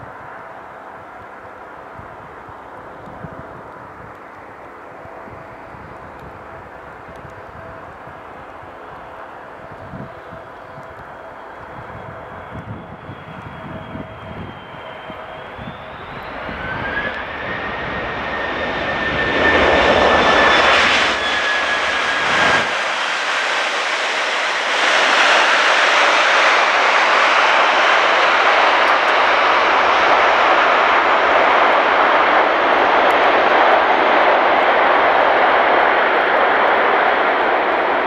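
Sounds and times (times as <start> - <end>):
faint high engine whine: 0.0 - 38.0
jet engines roaring: 0.0 - 38.0.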